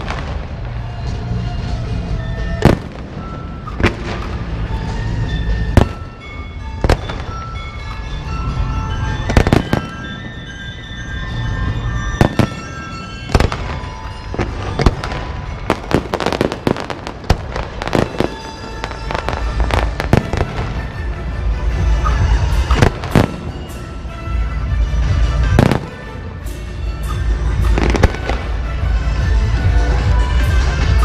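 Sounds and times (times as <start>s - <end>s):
fireworks and firecrackers banging: 0.0s - 31.0s
music playing: 0.0s - 31.0s.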